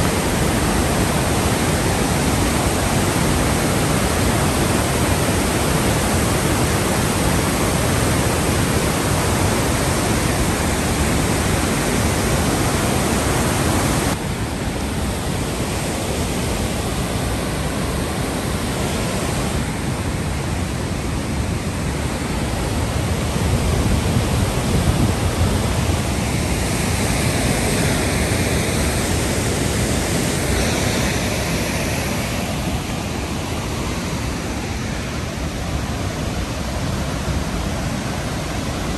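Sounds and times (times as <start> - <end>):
water rushing over boulders: 0.0 - 38.9.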